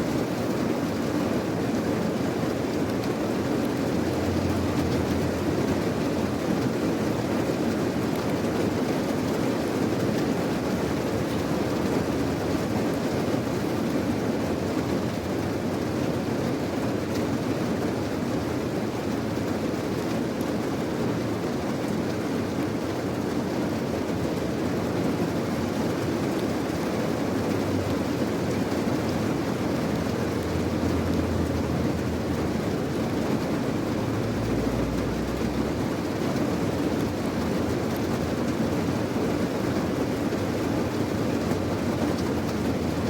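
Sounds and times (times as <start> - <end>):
steady rain with low rumble: 0.0 - 43.0.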